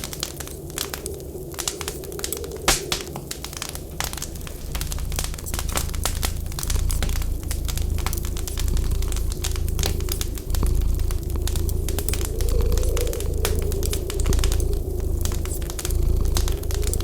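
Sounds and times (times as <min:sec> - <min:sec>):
faint whistling wind: 0:00.0 - 0:17.0
low rumble: 0:00.0 - 0:17.0
wood fire crackling and popping: 0:00.0 - 0:17.0.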